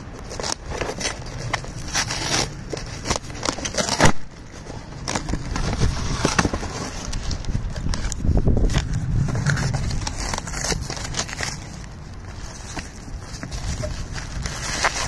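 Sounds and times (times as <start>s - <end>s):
cardboard box tearing: 0.0s - 15.0s.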